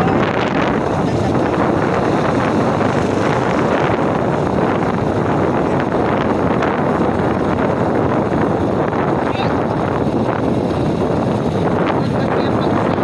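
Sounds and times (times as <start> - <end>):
motorcycle engine running: 0.0 - 13.0
road noise: 0.0 - 13.0
wind on microphone: 0.0 - 13.0.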